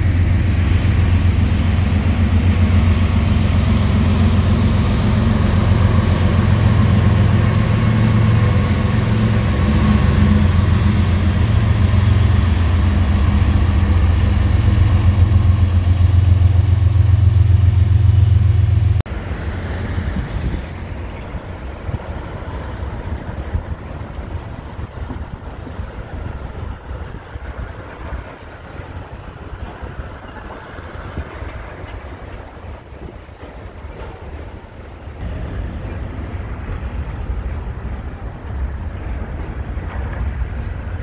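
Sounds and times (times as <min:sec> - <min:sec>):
diesel locomotive engine: 0:00.0 - 0:41.0
train cars rolling over overpass: 0:00.0 - 0:41.0
train wheels rumbling and clattering: 0:00.0 - 0:41.0.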